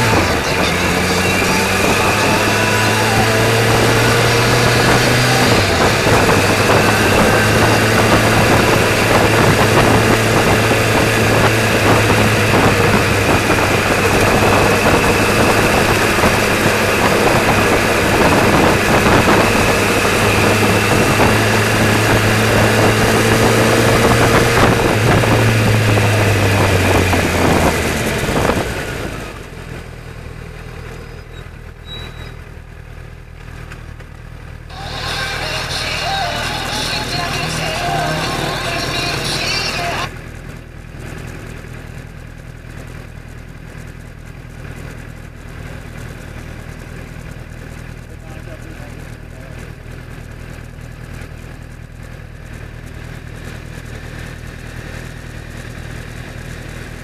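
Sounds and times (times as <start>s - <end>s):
road and wind noise: 0.0s - 57.0s
vehicle engine drone: 0.0s - 57.0s.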